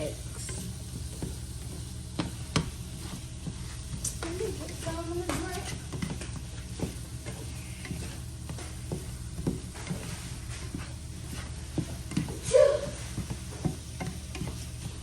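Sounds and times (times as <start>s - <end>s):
faint sizzle: 0.0s - 15.0s
spatula scraping and knocking pan: 0.0s - 15.0s.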